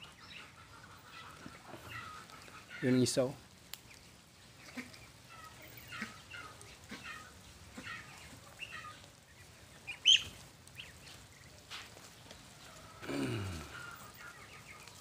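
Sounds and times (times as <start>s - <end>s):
ducks calling: 0.0s - 15.0s.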